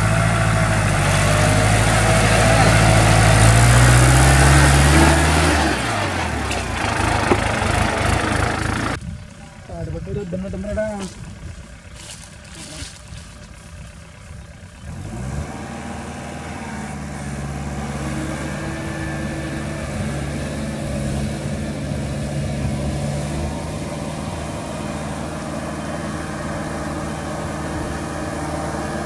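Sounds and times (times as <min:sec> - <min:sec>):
tractor diesel engine: 0:00.0 - 0:29.0.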